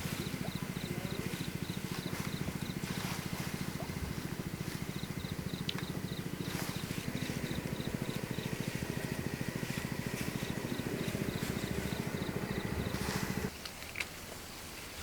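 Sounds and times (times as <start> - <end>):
small engine running: 0.0 - 13.5
insect chirps: 0.2 - 13.5.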